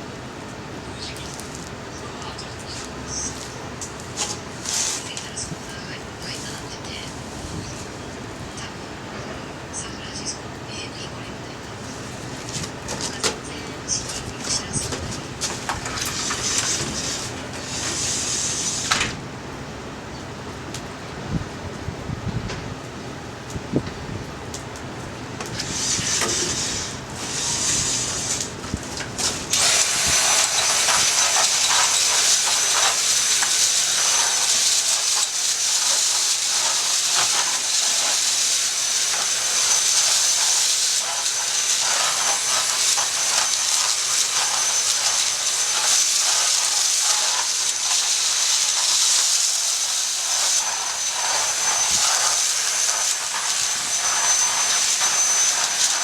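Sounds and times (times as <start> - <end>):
loud steady hiss: 0.0 - 21.4, 22.8 - 56.0
thin high whine: 0.6 - 19.2, 25.4 - 56.0.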